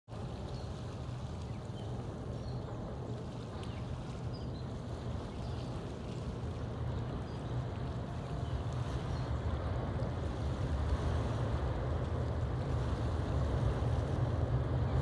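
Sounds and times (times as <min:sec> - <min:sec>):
water or wind wash: 0:00.0 - 0:15.0
low outdoor rumble: 0:00.1 - 0:15.0.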